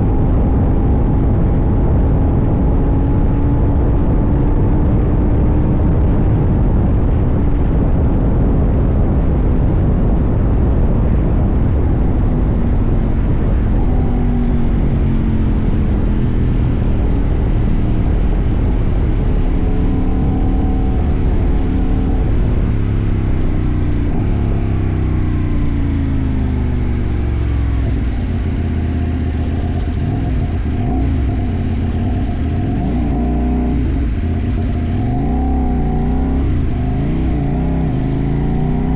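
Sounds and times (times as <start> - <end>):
motorcycle engine running: 0.0 - 38.9
wind rumble: 0.0 - 38.9.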